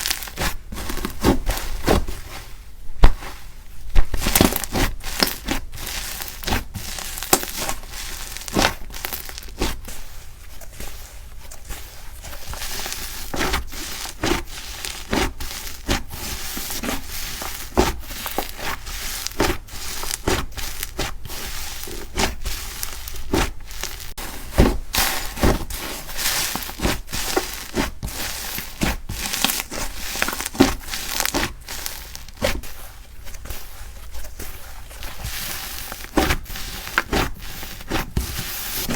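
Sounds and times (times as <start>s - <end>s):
slime squelching and crackling: 0.0s - 38.9s.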